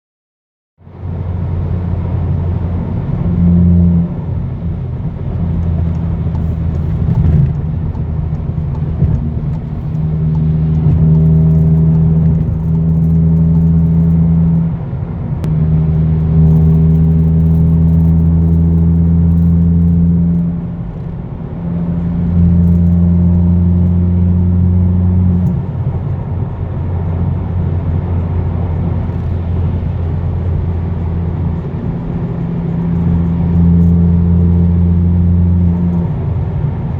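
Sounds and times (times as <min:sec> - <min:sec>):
car exhaust droning while cruising: 0:00.8 - 0:36.9.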